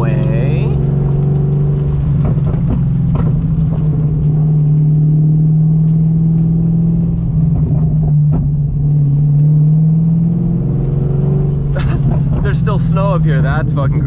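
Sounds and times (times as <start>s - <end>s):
car engine deep drone: 0.0s - 14.0s.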